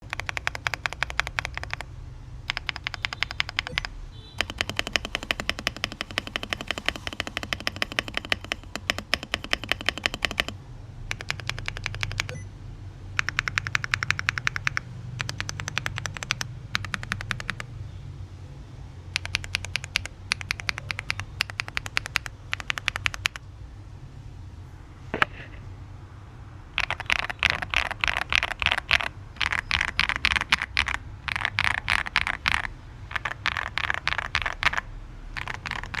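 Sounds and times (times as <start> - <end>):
mechanical keyboard typing: 0.0 - 12.4, 13.2 - 17.7, 19.1 - 23.4, 26.8 - 36.0.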